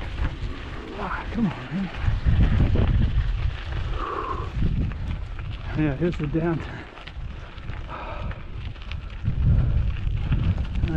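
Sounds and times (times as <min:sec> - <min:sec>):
bike rattling over stones: 0:00.0 - 0:10.9
wind rumble on microphone: 0:00.0 - 0:10.9.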